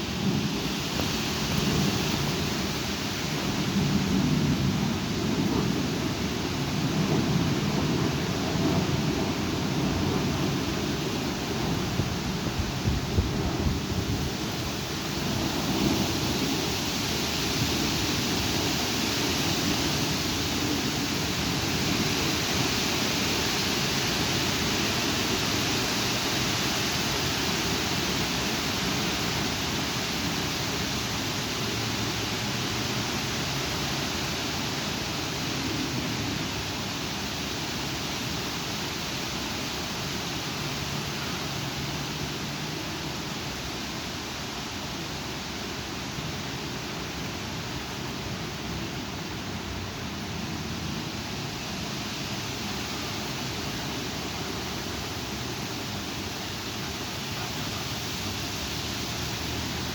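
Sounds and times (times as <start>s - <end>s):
rain: 0.0s - 59.9s
strong wind: 0.0s - 59.9s.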